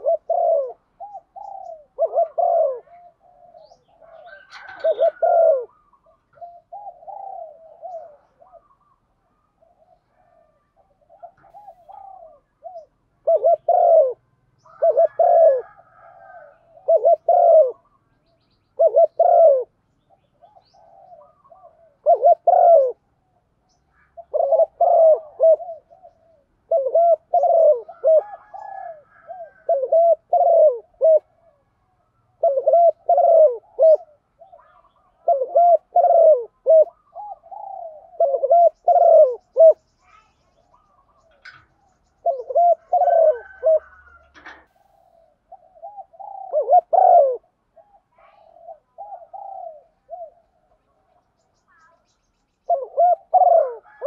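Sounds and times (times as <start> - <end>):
dove cooing: 0.0 - 52.0, 52.6 - 54.0.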